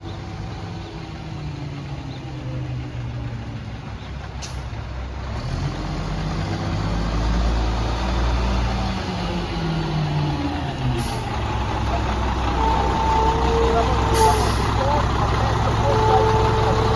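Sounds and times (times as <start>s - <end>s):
garbage truck diesel engine: 0.0s - 16.9s.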